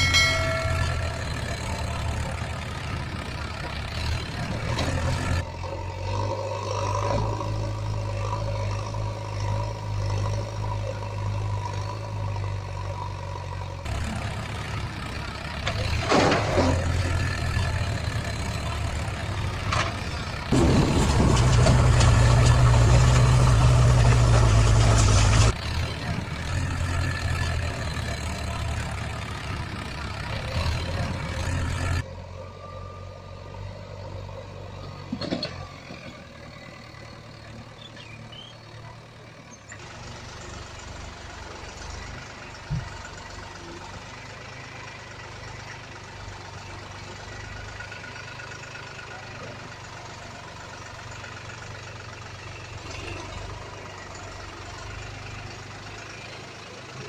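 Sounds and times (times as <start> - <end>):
heavy vehicle engine humming: 0.0 - 57.0.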